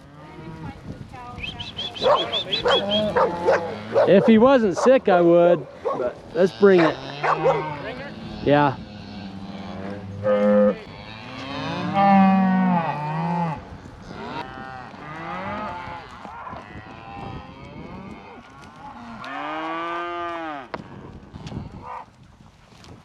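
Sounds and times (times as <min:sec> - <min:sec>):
cattle mooing: 0:01.6 - 0:05.0, 0:05.7 - 0:22.0.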